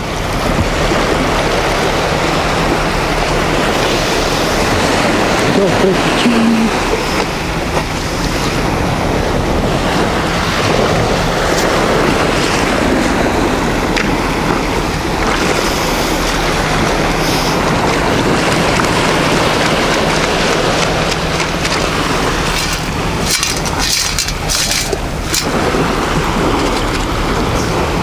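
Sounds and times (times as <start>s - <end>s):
waves breaking on shore: 0.0s - 28.0s
wind buffeting microphone: 0.0s - 28.0s.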